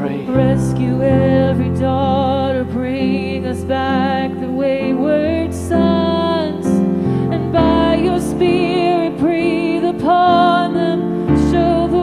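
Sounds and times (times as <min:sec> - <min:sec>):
person singing with vibrato: 0:00.0 - 0:12.0
sustained keyboard chords: 0:00.0 - 0:12.0.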